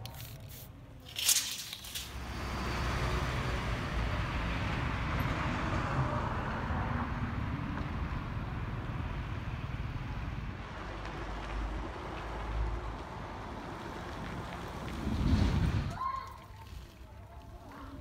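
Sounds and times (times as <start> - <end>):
cars driving along street: 1.9 - 18.0.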